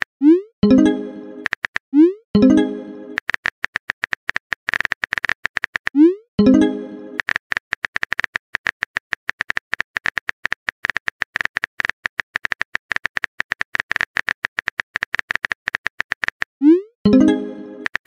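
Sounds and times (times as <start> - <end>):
rapid keyboard typing: 0.0 - 1.8, 2.5 - 16.6, 17.2 - 18.0.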